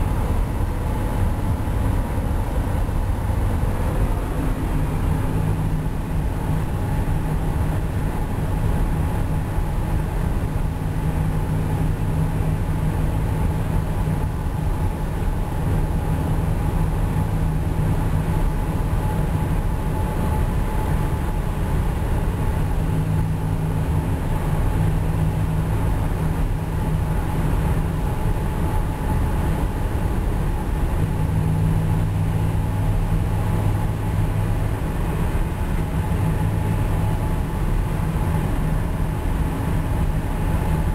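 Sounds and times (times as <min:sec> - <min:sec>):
car exhaust drone: 0:00.0 - 0:40.9
tyre road noise: 0:00.0 - 0:40.9.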